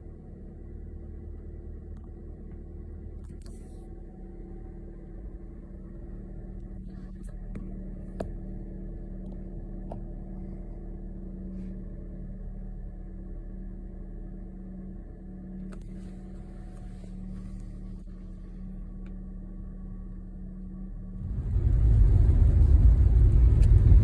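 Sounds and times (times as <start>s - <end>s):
car engine and tyres hum: 0.0s - 24.0s.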